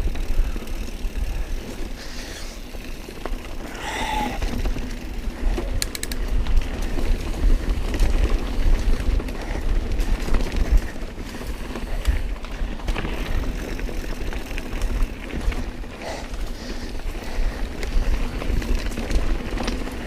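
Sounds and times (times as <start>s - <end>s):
bike rattling: 0.0s - 20.0s
bike tyres clattering over rocks: 0.1s - 20.0s
wind rumble on microphone: 3.6s - 20.0s.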